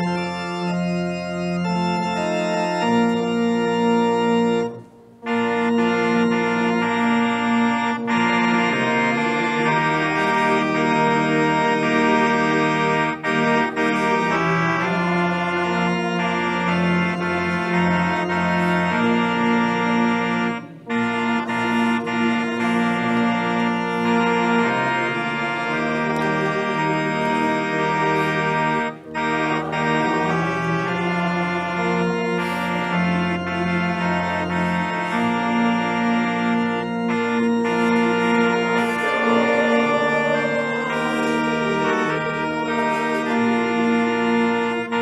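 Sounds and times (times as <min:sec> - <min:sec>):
organ playing sustained chords: 0:00.0 - 0:45.0.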